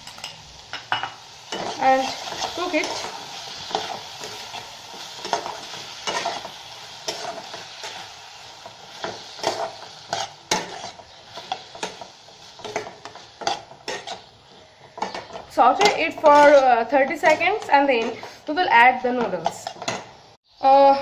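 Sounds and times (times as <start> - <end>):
vegetables sizzling in hot oil: 0.0 - 20.6
utensil scraping pan: 1.5 - 8.0, 9.0 - 20.1.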